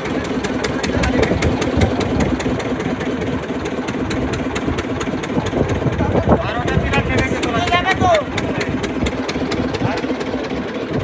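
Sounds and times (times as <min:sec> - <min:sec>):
boat engine knocking: 0:00.0 - 0:11.0.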